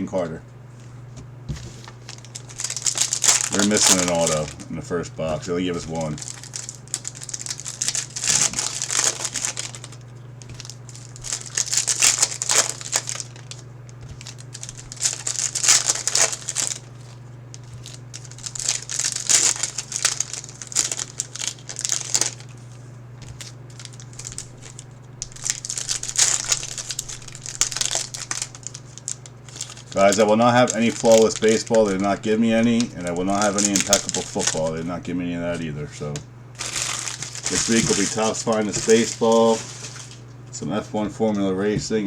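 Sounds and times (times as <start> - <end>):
low electrical hum: 0.0 - 42.0
card pack wrappers crinkling and tearing: 1.5 - 40.3.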